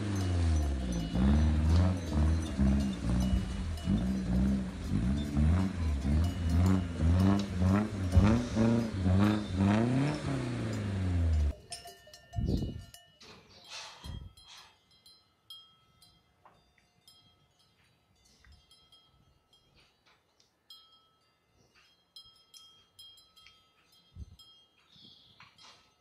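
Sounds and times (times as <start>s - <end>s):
light metallic clinking: 0.0s - 26.0s.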